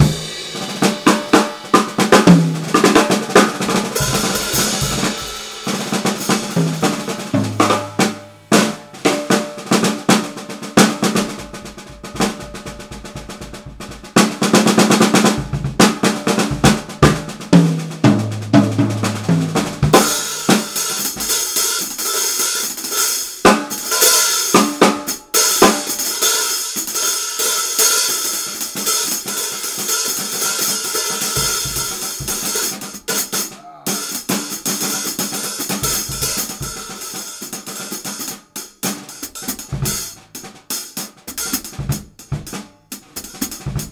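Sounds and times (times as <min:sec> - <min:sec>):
acoustic drum kit playing: 0:00.0 - 0:43.9.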